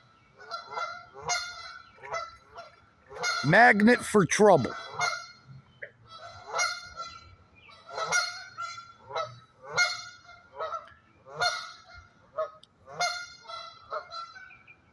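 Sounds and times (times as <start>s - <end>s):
geese honking: 0.4s - 5.4s, 6.1s - 14.6s.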